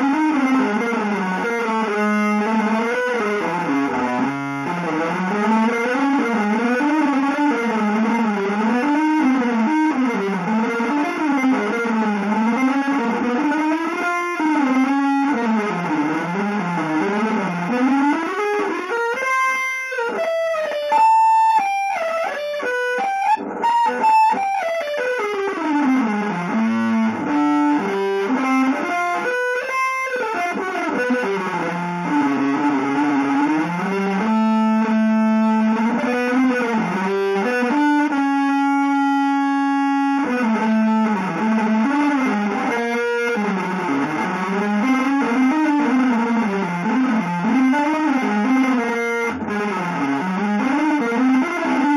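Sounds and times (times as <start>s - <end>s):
electric guitar improvising: 0.0s - 51.9s.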